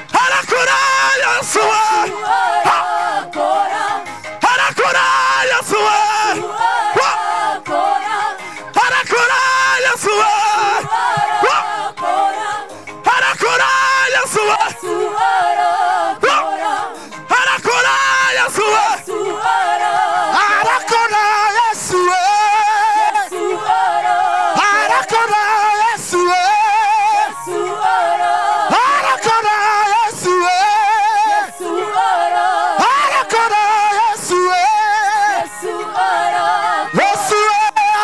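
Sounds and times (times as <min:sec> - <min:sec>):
unaccompanied singing through microphones: 0:00.0 - 0:38.0.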